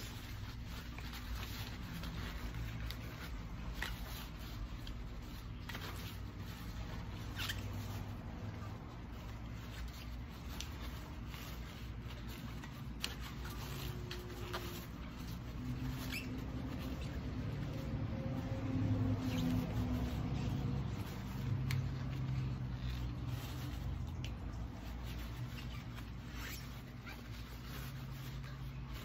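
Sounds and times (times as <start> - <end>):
small handling clicks and squeaks: 0.0 - 29.0.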